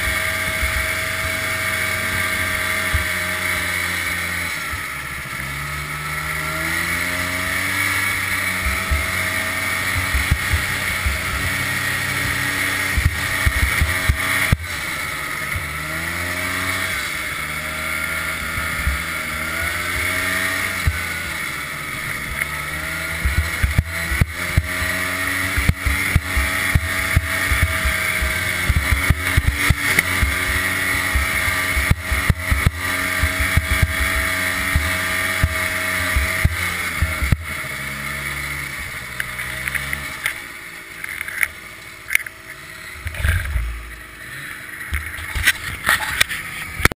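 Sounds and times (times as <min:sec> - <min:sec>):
snowmobile engine running: 0:00.0 - 0:46.9.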